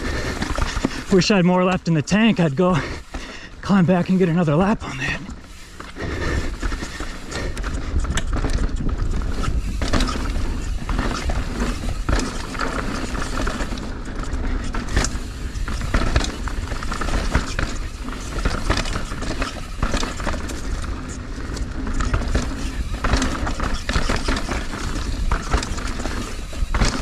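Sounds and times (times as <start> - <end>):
bike chain and frame rattling: 0.0 - 27.0
tyres on dirt and rock: 0.0 - 27.0.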